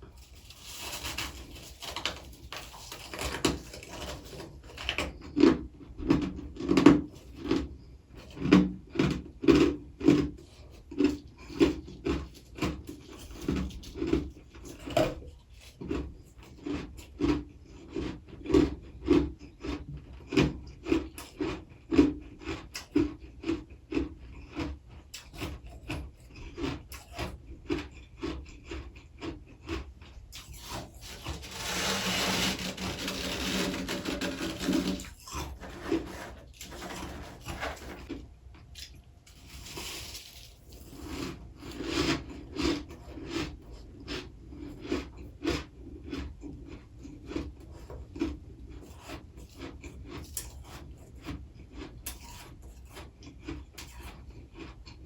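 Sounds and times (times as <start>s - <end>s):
frost crunching and chewing: 0.0s - 55.0s.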